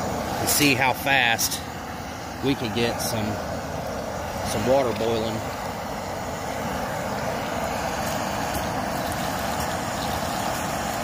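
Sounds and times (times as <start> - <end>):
gas stove flame hissing: 0.0 - 11.0.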